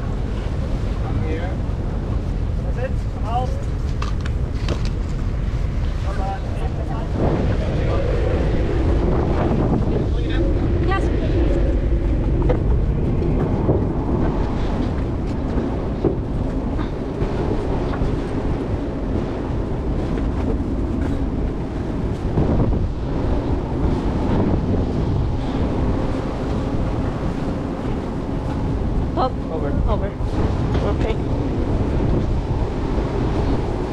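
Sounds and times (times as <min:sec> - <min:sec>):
ship low rumble: 0:00.0 - 0:33.9.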